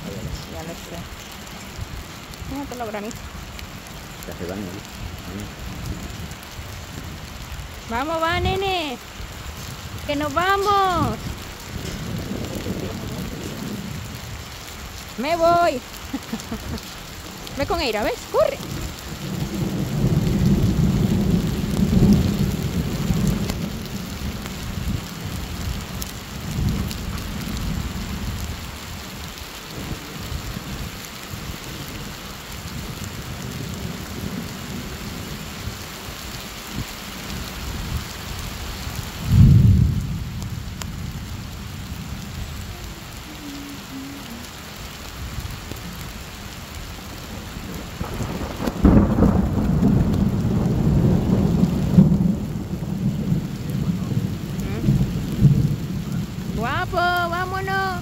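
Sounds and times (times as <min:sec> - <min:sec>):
heavy rain pouring: 0:00.0 - 0:58.0
thunder rumbling: 0:00.0 - 0:58.0.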